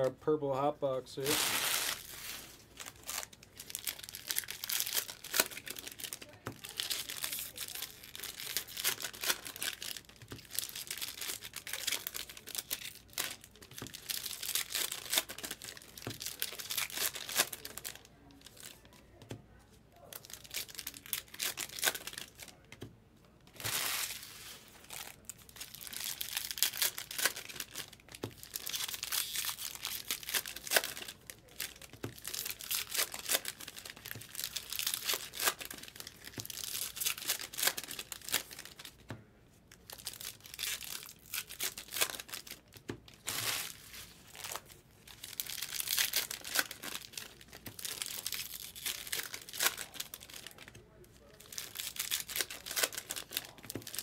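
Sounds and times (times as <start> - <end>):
foil wrappers tearing and crinkling: 1.2 - 19.0, 20.0 - 22.7, 23.5 - 39.0, 39.8 - 54.0.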